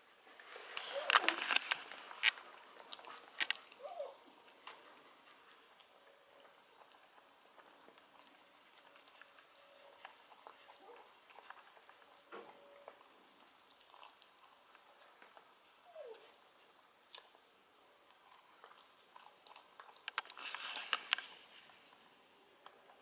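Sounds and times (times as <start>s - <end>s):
puppy chewing: 0.8s - 23.0s.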